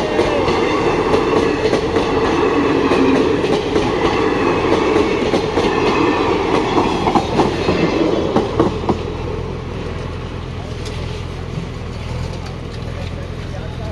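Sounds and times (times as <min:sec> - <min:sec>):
train coaches rumbling past: 0:00.0 - 0:13.9
wheels clattering over rail joints: 0:00.0 - 0:13.9.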